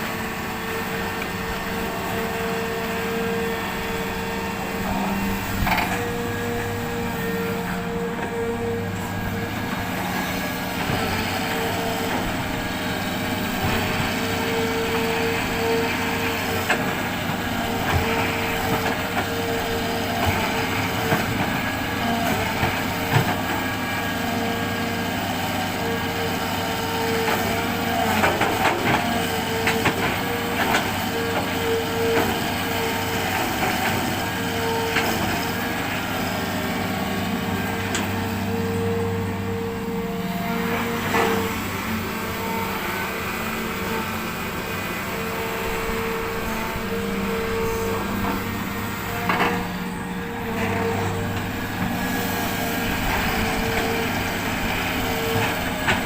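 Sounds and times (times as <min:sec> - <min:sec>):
diesel engine whining: 0:00.0 - 0:56.0.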